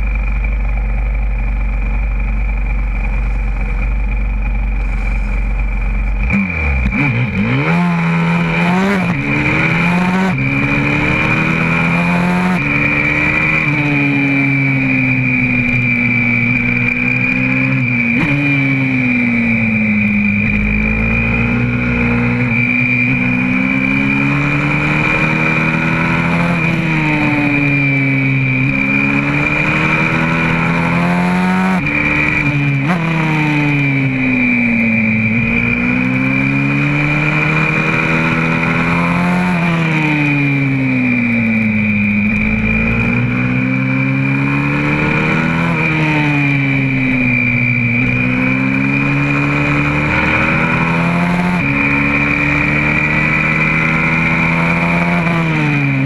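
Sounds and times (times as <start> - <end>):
high-pitched whine: 0.0 - 56.0
motorbike engine revving: 0.0 - 56.0.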